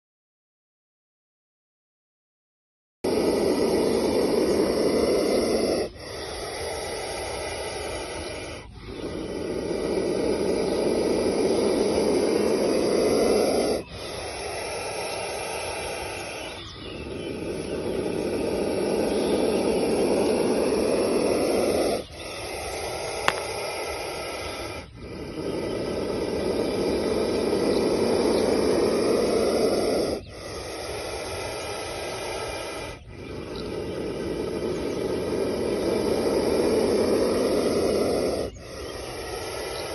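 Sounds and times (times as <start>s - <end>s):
snake hissing: 3.0s - 39.9s.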